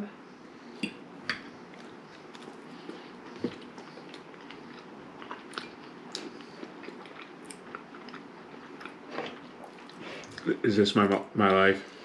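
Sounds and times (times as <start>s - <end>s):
people chewing food: 0.6s - 11.6s.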